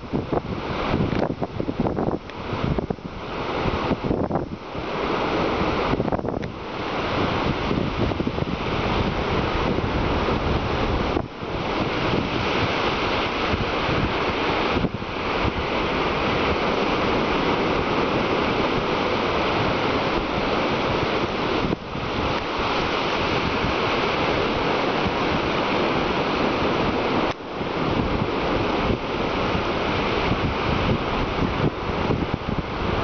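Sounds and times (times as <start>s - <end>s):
ocean surf on a beach: 0.0s - 33.0s
wind buffeting microphone: 0.0s - 33.0s.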